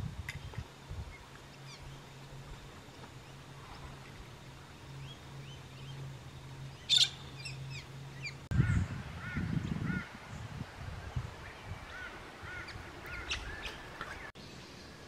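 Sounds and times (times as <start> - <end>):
low steady hum: 0.0 - 15.0
birds chirping: 0.3 - 15.0.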